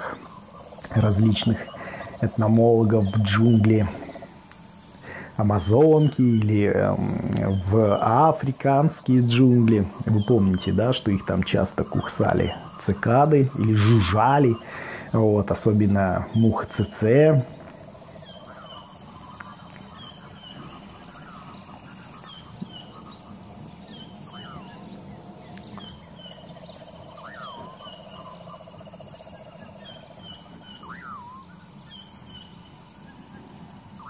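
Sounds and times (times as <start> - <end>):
low bird trill: 5.1 - 33.3.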